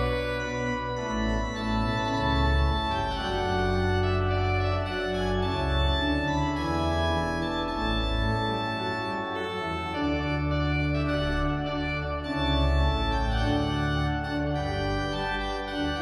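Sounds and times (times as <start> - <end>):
organ music: 0.0 - 16.0.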